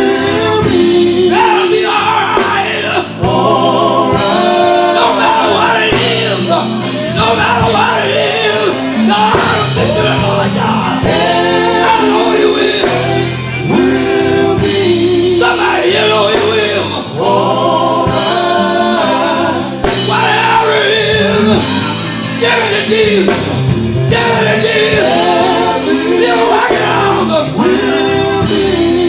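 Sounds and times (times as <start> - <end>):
band accompaniment: 0.0 - 29.0
male vocal group singing harmony: 0.0 - 29.0.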